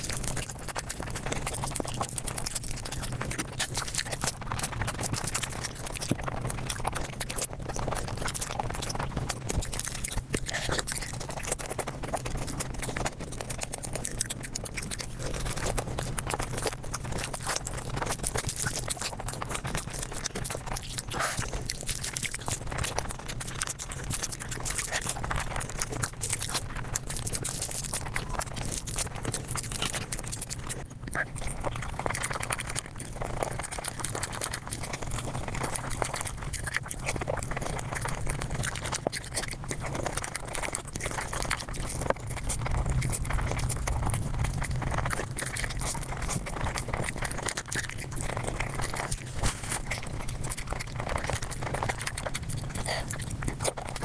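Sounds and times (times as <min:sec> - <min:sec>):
sped-up chewing and crunching: 0:00.0 - 0:54.0.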